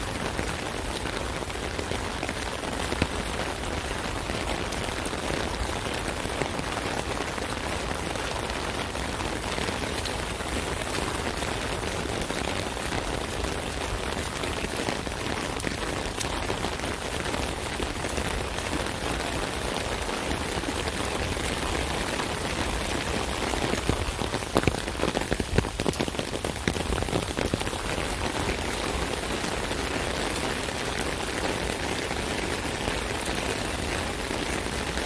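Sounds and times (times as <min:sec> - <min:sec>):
rain falling on an umbrella: 0:00.0 - 0:35.0.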